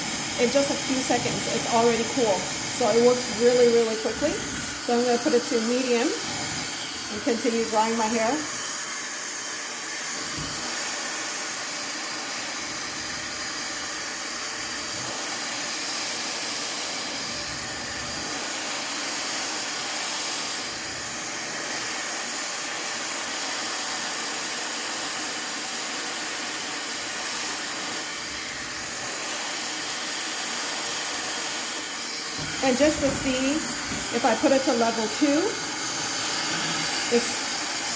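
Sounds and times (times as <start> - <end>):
hair dryer blowing air: 0.0 - 37.9.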